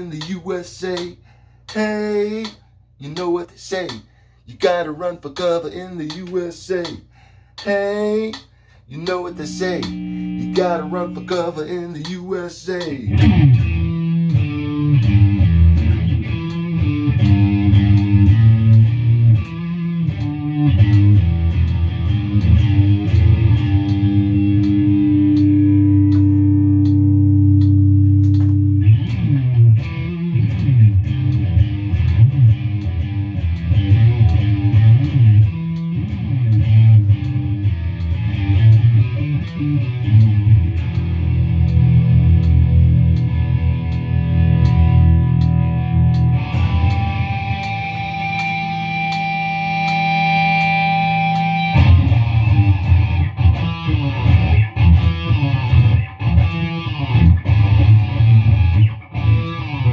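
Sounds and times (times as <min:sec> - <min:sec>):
electric guitar through amplifier: 0:05.4 - 0:59.9.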